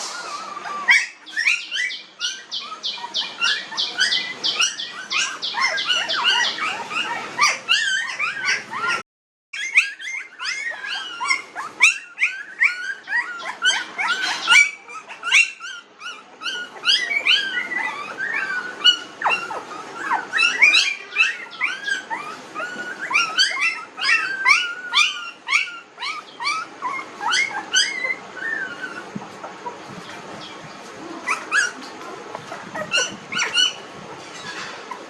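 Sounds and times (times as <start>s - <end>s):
puppies squealing and whimpering: 0.0s - 9.0s, 9.6s - 35.0s.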